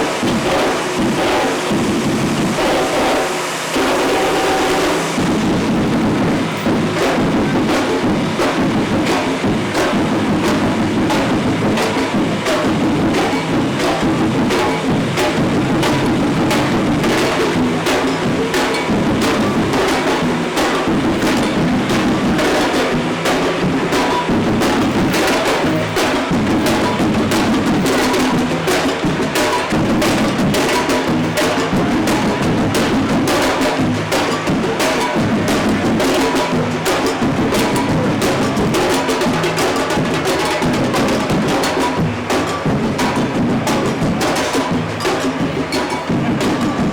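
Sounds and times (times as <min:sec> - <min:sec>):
parade percussion band: 0:00.0 - 0:46.9.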